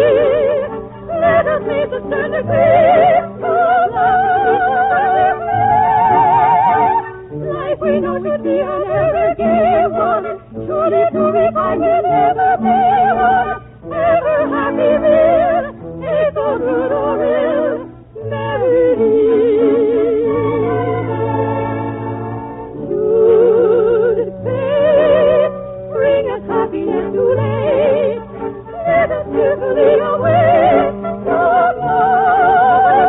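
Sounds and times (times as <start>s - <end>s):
orchestra holding notes: 0.0s - 33.0s
soprano singing opera: 0.0s - 33.0s.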